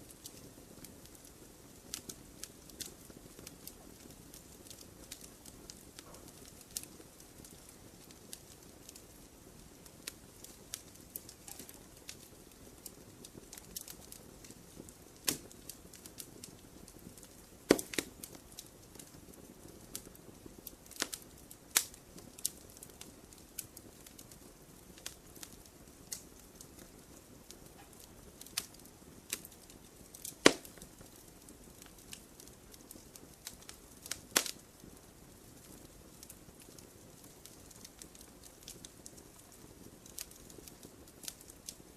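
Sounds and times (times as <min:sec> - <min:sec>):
campfire pops and snaps: 0:00.0 - 0:41.9
flames rustling: 0:00.0 - 0:41.9.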